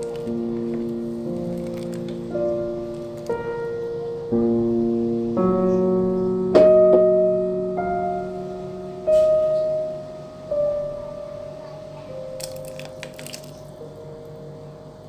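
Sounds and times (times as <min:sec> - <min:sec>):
slow solo piano: 0:00.0 - 0:15.0.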